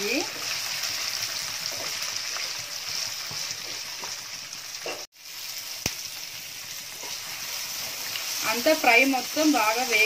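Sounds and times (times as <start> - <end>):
food sizzling in hot oil: 0.0 - 10.0
spatula stirring pan: 0.1 - 5.1, 5.8 - 10.0.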